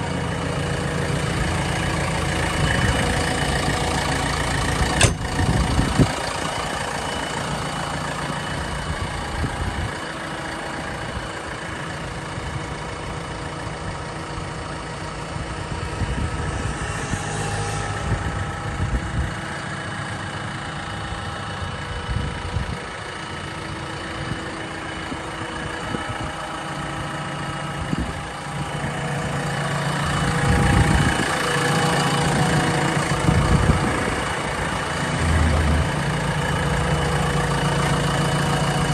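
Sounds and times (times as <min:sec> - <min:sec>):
diesel engine idling: 0:00.0 - 0:17.2, 0:17.8 - 0:38.9.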